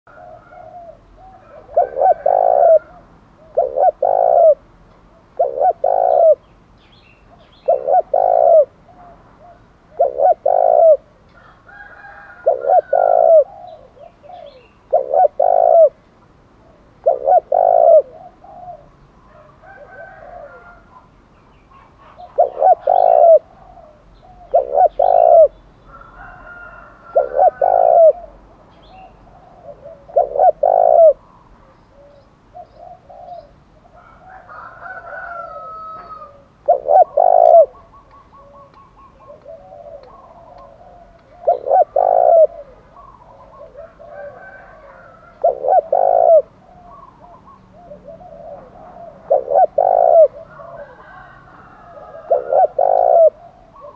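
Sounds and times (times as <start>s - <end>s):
dove cooing: 0.1s - 6.4s, 7.3s - 16.0s, 16.6s - 21.1s, 21.7s - 53.9s.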